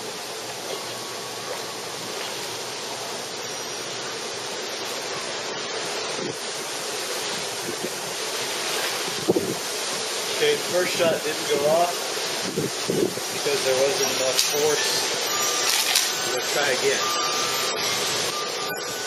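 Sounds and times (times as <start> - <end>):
pool water sloshing and lapping: 0.0 - 17.0.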